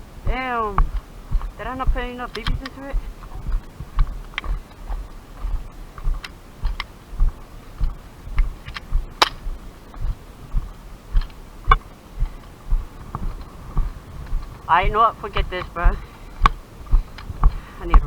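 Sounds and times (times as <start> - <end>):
footsteps: 0.0 - 18.0
gear clicking and rattling: 0.8 - 18.0.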